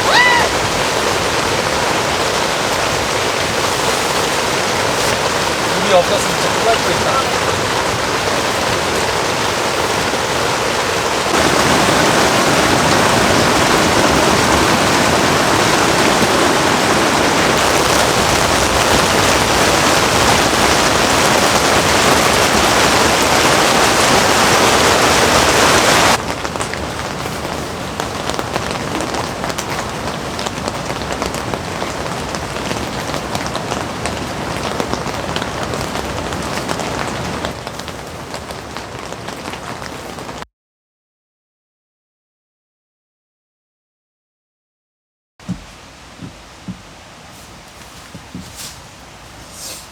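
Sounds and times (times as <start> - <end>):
heavy rain falling: 0.0 - 40.4, 45.4 - 49.9.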